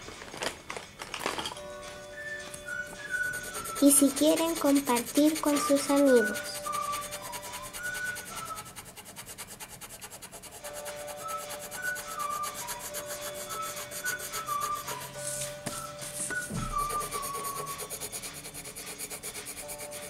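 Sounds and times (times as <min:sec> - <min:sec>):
pencil scratching on paper: 0:03.0 - 0:20.0.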